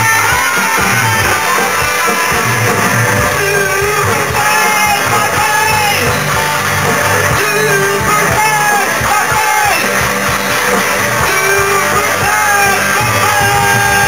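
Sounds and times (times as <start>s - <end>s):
person singing into microphone: 0.0s - 14.0s
rock song on electric guitars: 0.0s - 14.0s.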